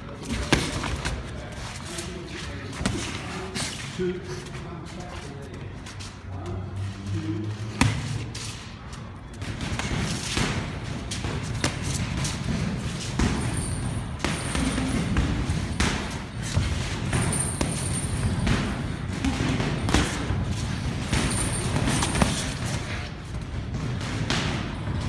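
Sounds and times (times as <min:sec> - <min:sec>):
steady background noise: 0:00.0 - 0:25.0.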